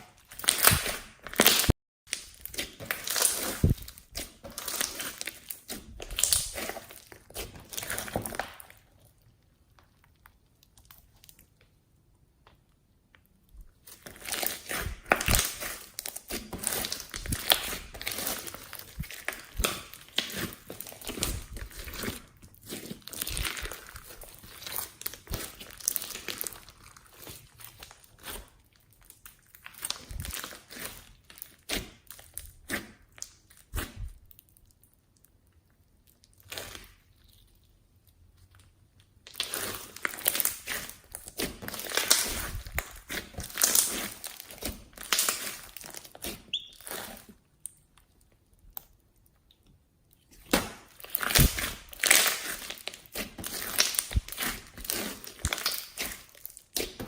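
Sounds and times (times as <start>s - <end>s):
slime squeezed crackling and popping: 0.0s - 11.8s, 13.1s - 57.0s.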